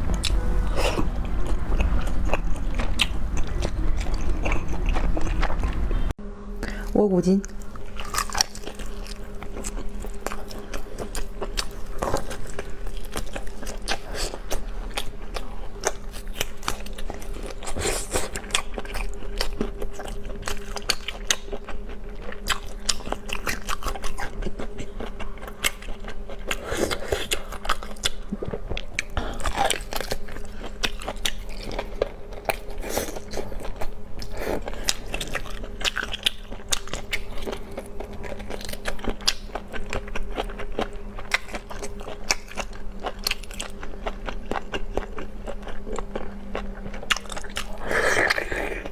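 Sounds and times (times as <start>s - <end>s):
crunchy chewing of food: 0.0s - 6.1s, 7.4s - 48.9s
steady low hum: 0.0s - 48.9s.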